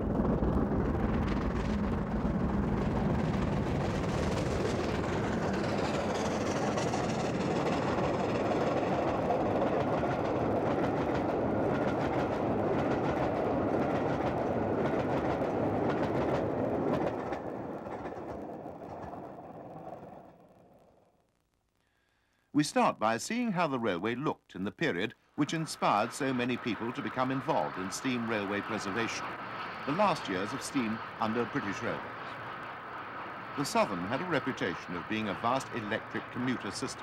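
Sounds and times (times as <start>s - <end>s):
train coaches rolling on rails: 0.0s - 20.6s, 25.4s - 37.0s.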